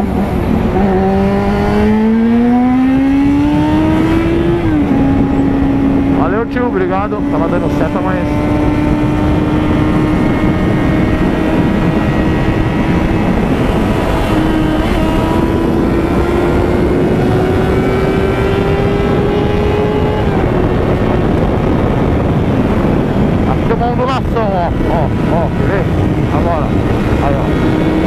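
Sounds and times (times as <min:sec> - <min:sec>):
motorcycle engine accelerating: 0:00.0 - 0:28.0
wind and road noise: 0:00.0 - 0:28.0.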